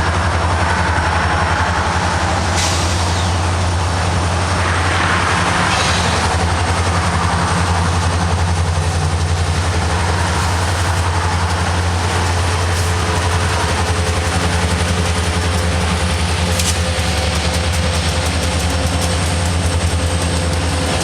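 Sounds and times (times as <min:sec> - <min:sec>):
diesel locomotive engines droning: 0:00.0 - 0:21.0
wheels rumbling on rail: 0:00.0 - 0:21.0.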